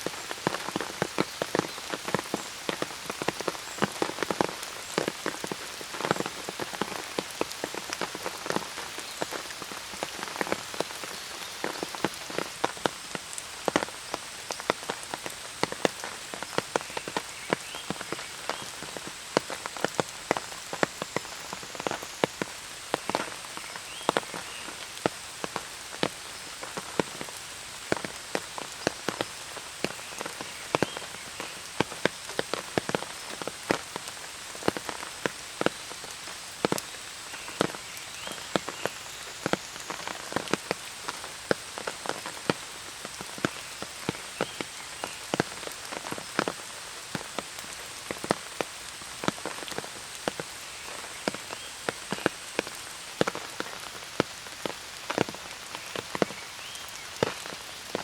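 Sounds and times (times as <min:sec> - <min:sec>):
loud raindrops striking close: 0:00.0 - 0:58.0
steady rain: 0:00.0 - 0:58.0.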